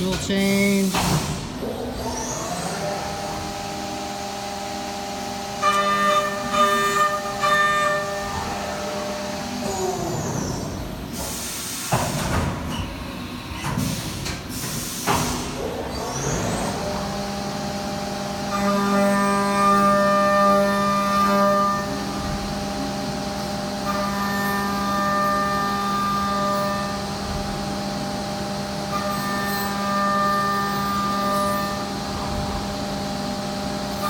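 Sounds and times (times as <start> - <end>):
milling machine spindle whine: 1.6 - 11.2, 15.7 - 34.0.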